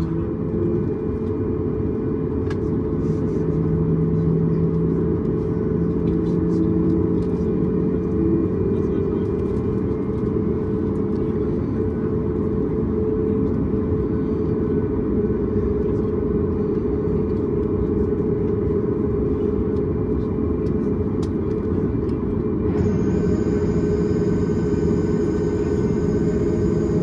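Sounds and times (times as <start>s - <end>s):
jet engines humming at low power: 0.0s - 27.0s.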